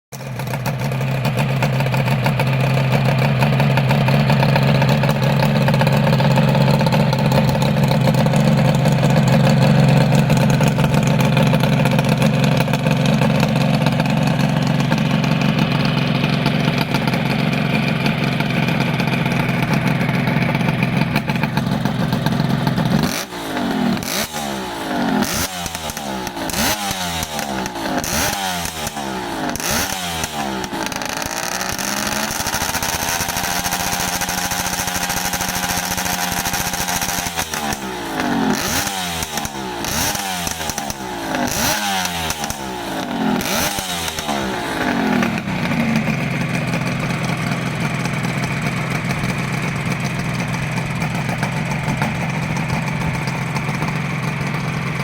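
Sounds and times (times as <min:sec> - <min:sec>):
engine revving: 0:00.1 - 0:55.0
motorcycle engine idling: 0:00.1 - 0:55.0.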